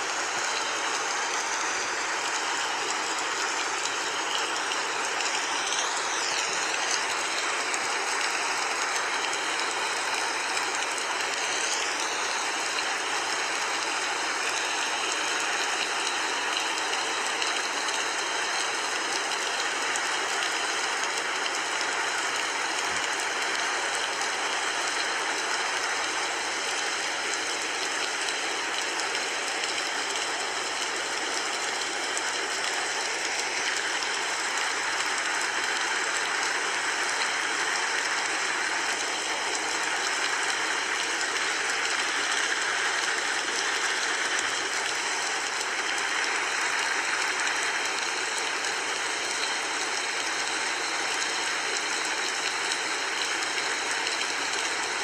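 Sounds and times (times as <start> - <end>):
steady hiss of noise: 0.0 - 55.0.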